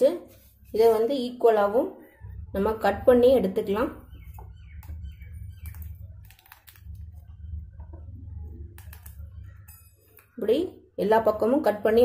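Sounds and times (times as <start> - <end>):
low hum: 0.4 - 12.0.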